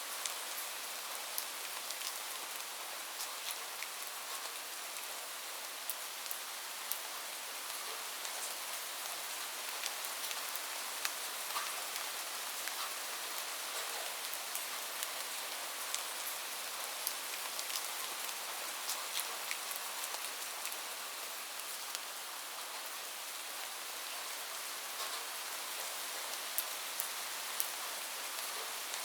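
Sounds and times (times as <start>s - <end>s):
steady rain with drop ticks: 0.0s - 29.0s.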